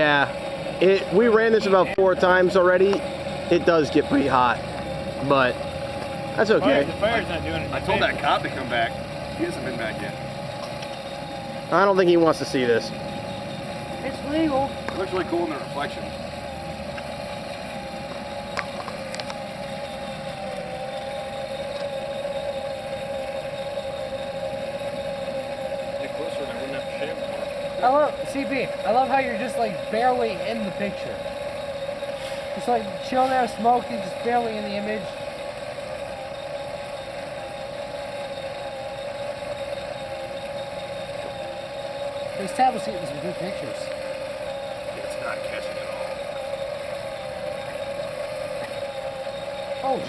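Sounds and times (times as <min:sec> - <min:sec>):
motor humming: 0:00.0 - 0:50.0
rush of whirling flame: 0:02.2 - 0:50.0.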